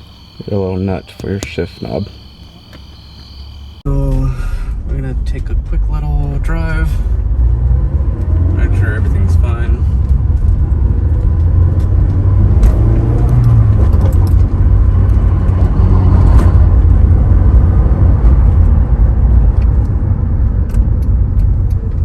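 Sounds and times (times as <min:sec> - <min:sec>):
car engine rumbling: 0:00.0 - 0:22.0
road noise inside car: 0:00.0 - 0:22.0.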